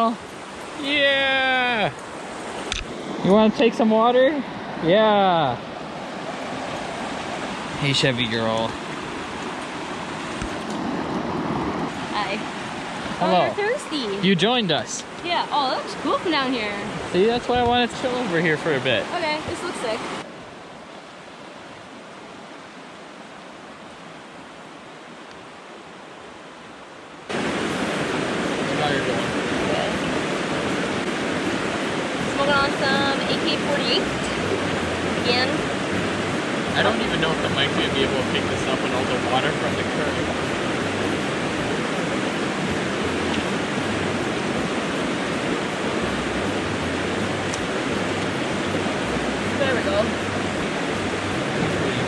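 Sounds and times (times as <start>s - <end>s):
river water rushing over rocks: 0.0s - 52.0s.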